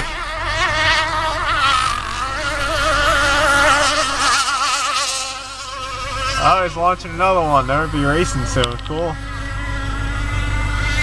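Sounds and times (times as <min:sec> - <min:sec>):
low steady hum: 0:00.0 - 0:11.0
model boat engine buzzing: 0:00.0 - 0:11.0.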